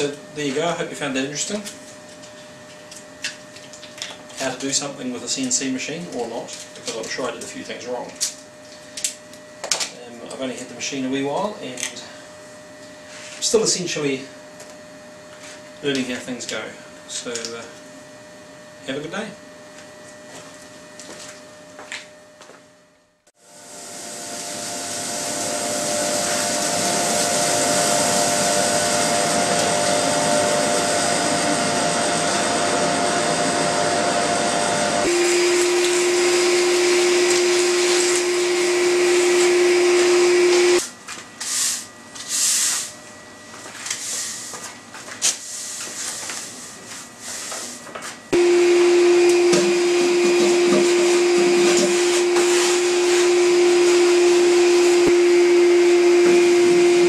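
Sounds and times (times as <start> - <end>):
shop vacuum running: 0.0 - 57.0.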